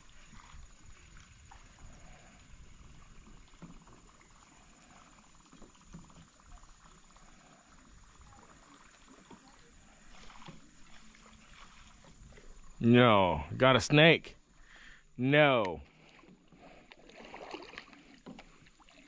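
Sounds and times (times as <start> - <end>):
light water sounds: 0.0 - 19.0.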